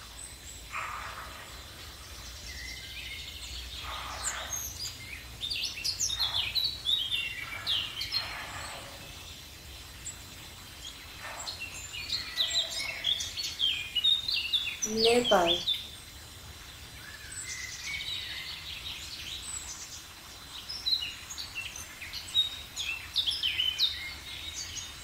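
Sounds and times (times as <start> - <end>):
birds chirping: 0.0 - 25.0
steady background hiss: 0.0 - 25.0.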